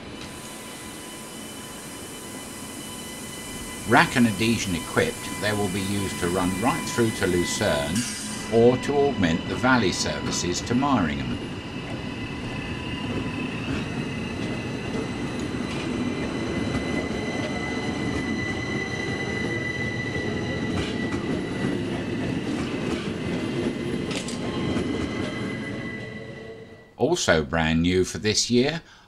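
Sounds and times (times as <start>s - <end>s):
train wheels rumbling on rail: 0.0s - 26.5s
high whine: 0.0s - 27.0s.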